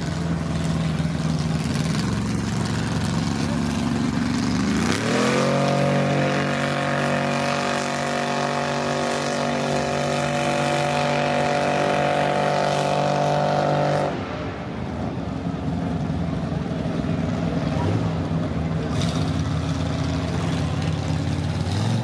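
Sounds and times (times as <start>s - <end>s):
truck engine revving: 0.0s - 14.5s, 17.2s - 22.0s.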